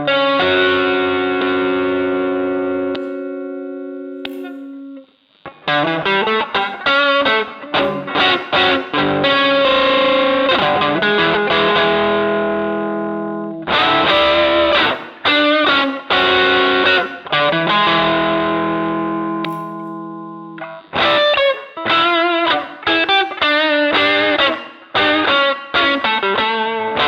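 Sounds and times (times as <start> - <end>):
electric guitar notes and chords: 0.0 - 27.0.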